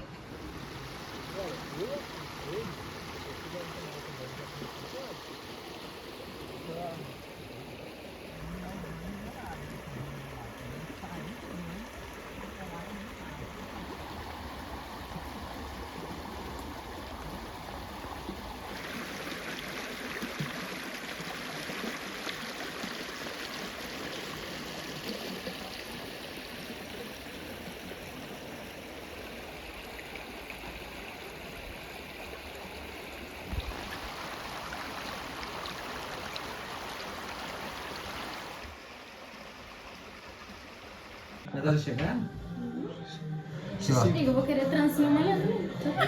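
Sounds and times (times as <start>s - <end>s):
creek water flowing: 0.0s - 46.0s.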